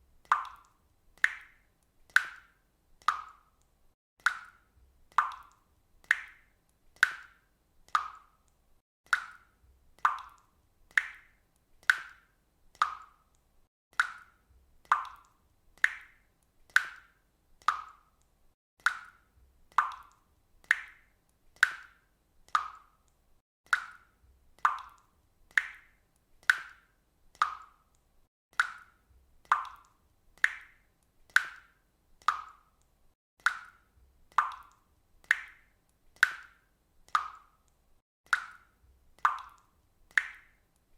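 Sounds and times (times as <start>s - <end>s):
water dripping into water: 0.0s - 40.9s.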